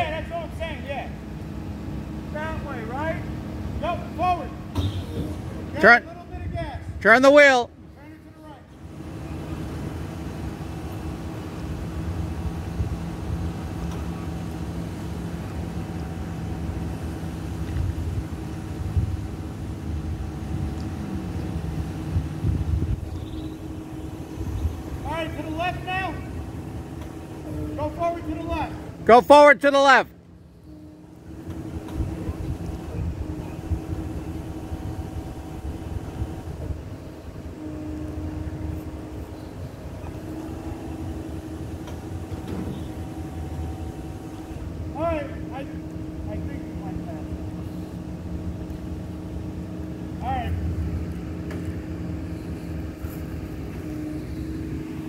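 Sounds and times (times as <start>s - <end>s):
truck engine humming: 0.0s - 55.0s.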